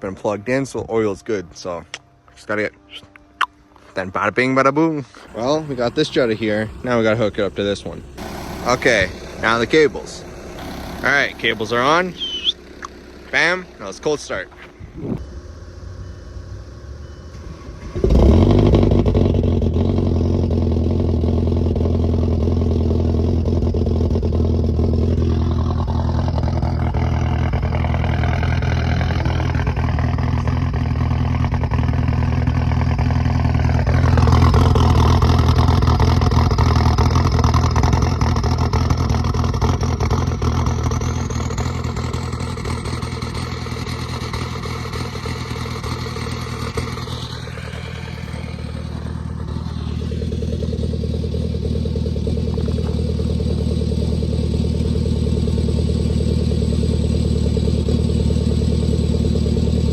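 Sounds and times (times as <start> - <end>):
diesel engine cold start: 4.8 - 59.9
rough diesel idle: 4.8 - 59.9.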